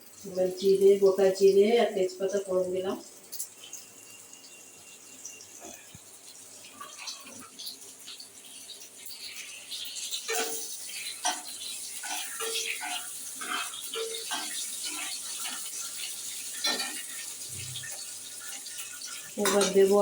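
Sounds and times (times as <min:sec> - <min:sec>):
spices sizzling in hot oil: 0:00.0 - 0:20.0.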